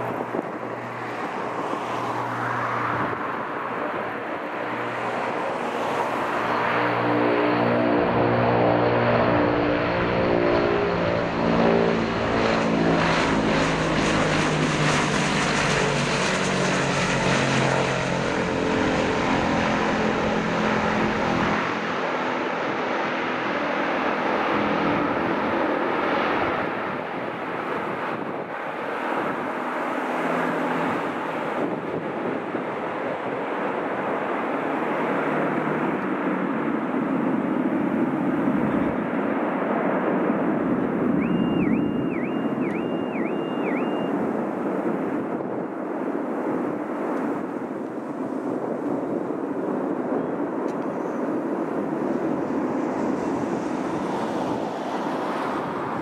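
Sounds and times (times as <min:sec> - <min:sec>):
rushing engine noise: 0:00.0 - 0:45.4
propeller aircraft drone: 0:00.0 - 0:56.0.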